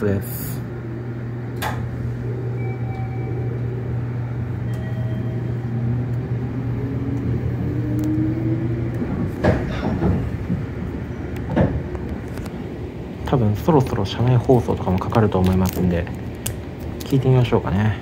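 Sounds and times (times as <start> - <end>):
train interior hum: 0.0 - 18.0.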